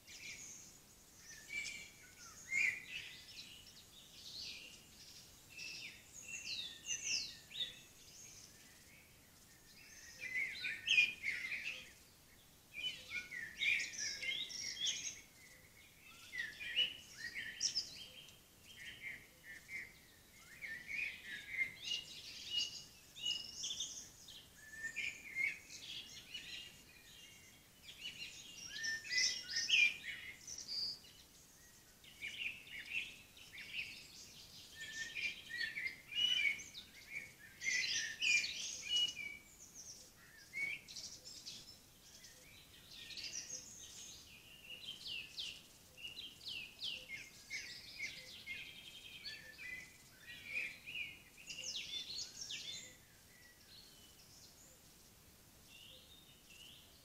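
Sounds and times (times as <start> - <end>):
faint background hiss: 0.0 - 57.0
songbirds chirping and trilling: 0.0 - 57.0.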